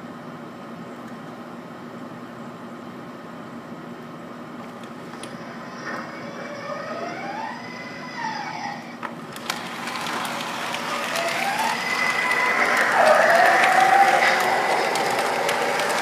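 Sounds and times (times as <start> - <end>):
subway train electric motor whine: 0.0 - 16.0.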